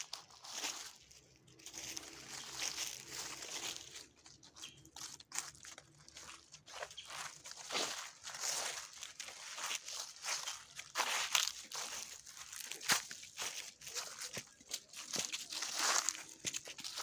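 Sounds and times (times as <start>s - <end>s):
footsteps crunching dry leaves: 0.0s - 17.0s.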